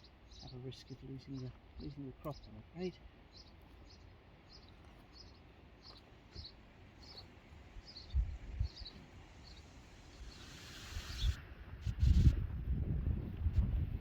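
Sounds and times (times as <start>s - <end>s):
small bird chirping: 0.0s - 11.4s.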